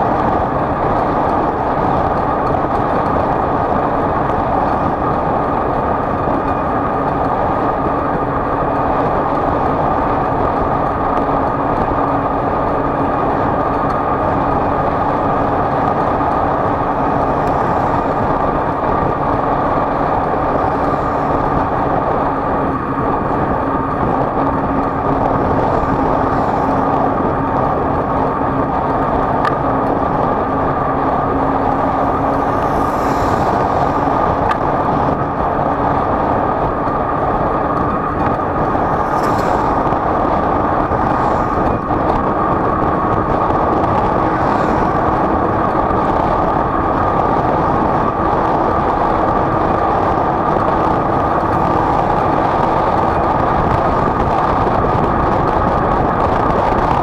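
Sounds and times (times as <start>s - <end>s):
vehicle engine hum: 0.0s - 57.0s
wind and road noise: 0.0s - 57.0s.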